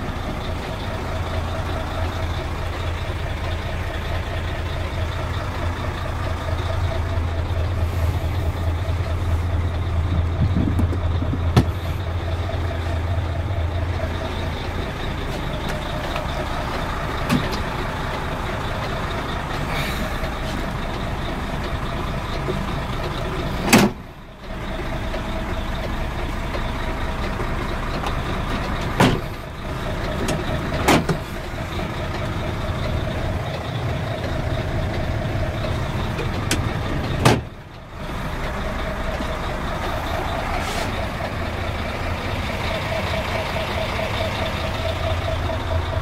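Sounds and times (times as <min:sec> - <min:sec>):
truck diesel engine idling: 0:00.0 - 0:46.0.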